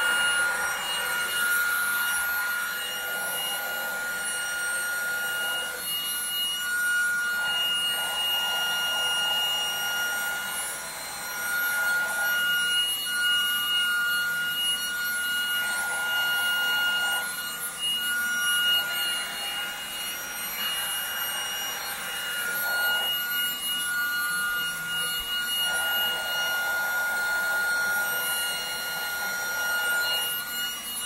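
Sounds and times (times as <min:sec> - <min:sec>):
vacuum motor whine: 0:00.0 - 0:31.0.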